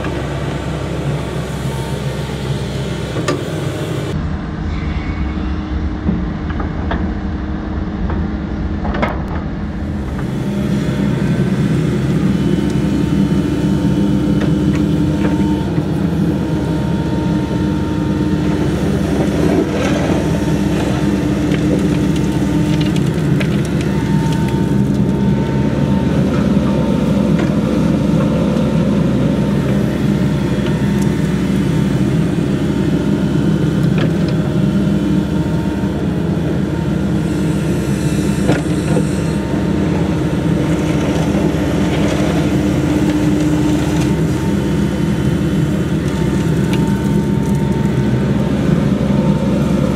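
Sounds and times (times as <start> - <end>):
construction machine engine running: 0.0 - 49.9.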